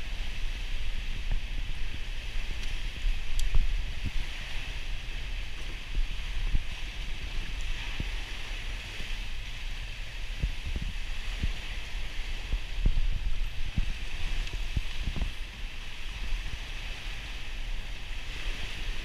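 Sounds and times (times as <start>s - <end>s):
low rumble: 0.0s - 18.6s
water lapping against boat hull: 0.0s - 19.0s.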